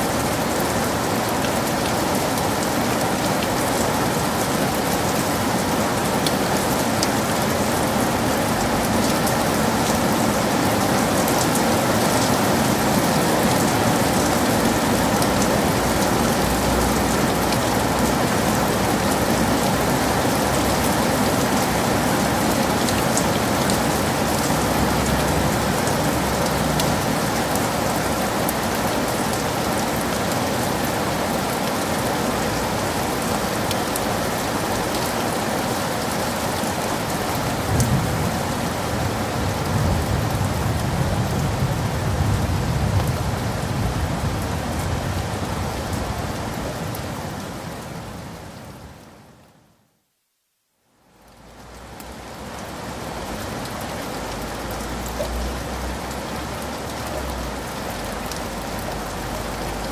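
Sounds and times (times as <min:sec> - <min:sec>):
heavy rain falling: 0:00.0 - 0:49.6, 0:51.0 - 0:59.9.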